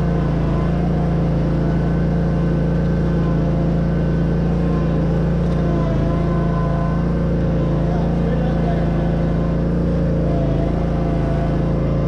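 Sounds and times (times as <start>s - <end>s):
riding mower engine running: 0.0s - 12.0s.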